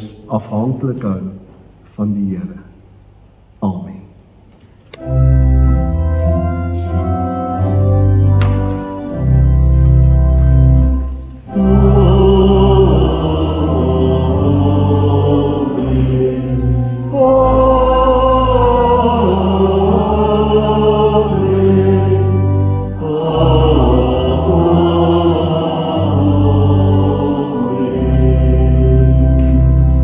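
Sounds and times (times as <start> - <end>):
church organ chords: 4.9 - 30.0
congregation singing: 5.0 - 30.0.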